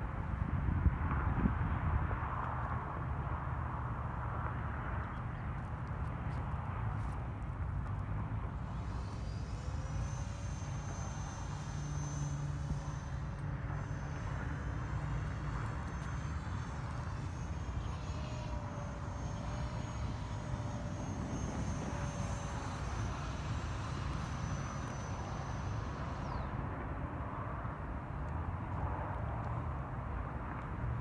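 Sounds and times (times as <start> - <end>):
model jet fan whine: 0.0 - 31.0
wind rumble on microphone: 0.0 - 31.0.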